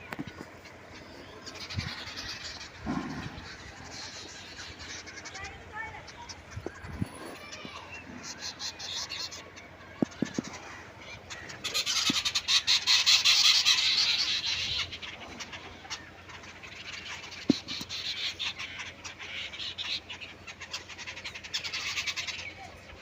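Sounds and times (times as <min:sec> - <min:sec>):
birds chorus chattering: 0:00.0 - 0:23.0.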